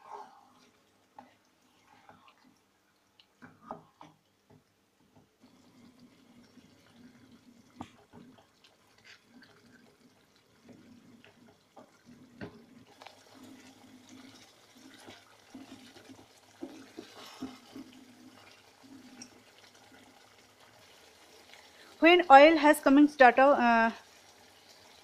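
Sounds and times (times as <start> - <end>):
faint wet simmer: 0.0 - 25.0.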